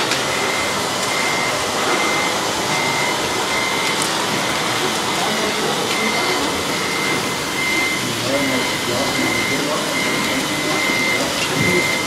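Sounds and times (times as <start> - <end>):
high repeating beep: 0.0 - 4.0, 5.2 - 12.0.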